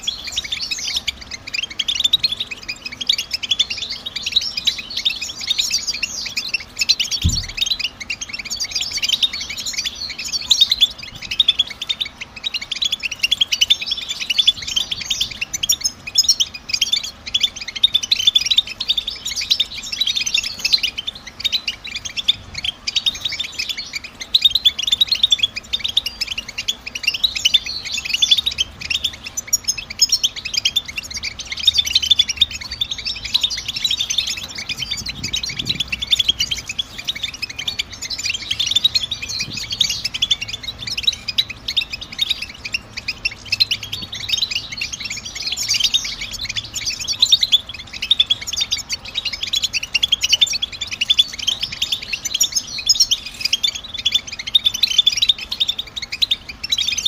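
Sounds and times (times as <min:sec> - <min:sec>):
goldfinch twittering: 0:00.0 - 0:57.0.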